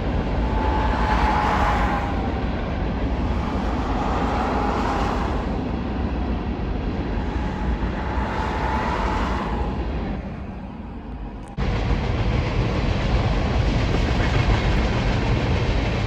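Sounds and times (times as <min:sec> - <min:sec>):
car road and engine noise: 0:00.0 - 0:16.0
faint whine: 0:00.0 - 0:16.0.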